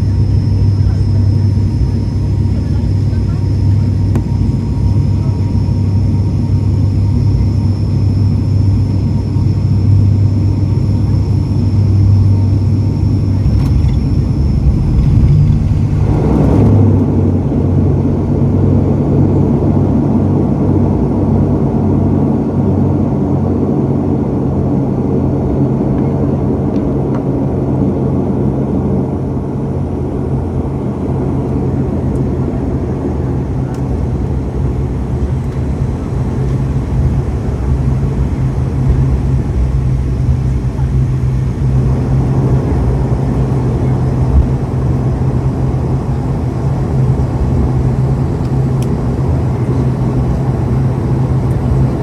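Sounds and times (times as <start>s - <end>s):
high engine whine: 0.0s - 52.0s
propeller drone: 0.0s - 52.0s.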